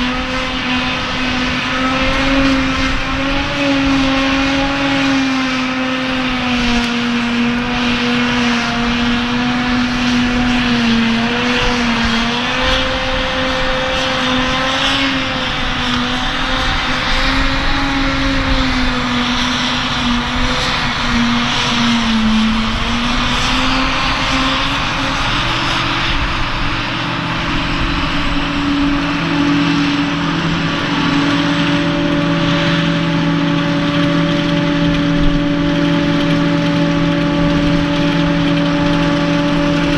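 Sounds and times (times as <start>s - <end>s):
harvester engine drone: 0.0s - 39.9s
rush of crop through machine: 0.0s - 39.9s
second steady engine note: 0.0s - 39.9s.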